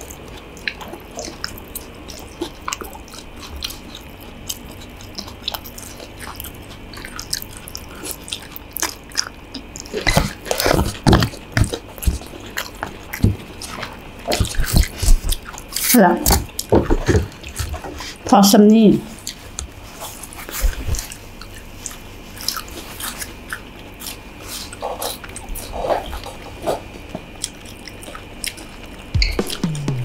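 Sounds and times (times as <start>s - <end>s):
person chewing noodles: 0.0s - 18.3s, 19.1s - 30.0s.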